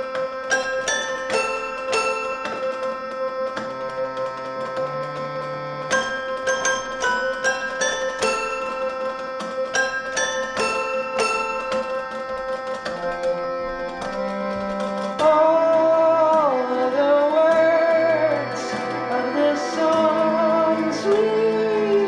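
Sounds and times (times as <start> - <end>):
musical saw wavering tone: 0.0 - 22.0.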